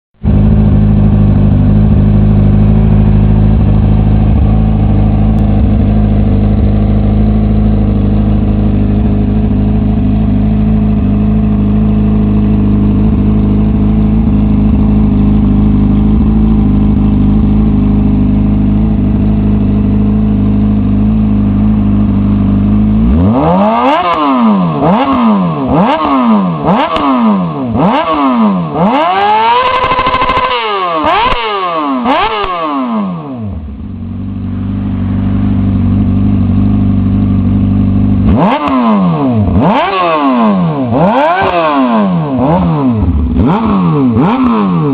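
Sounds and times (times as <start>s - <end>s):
motorcycle engine idling and revving: 0.2s - 44.9s.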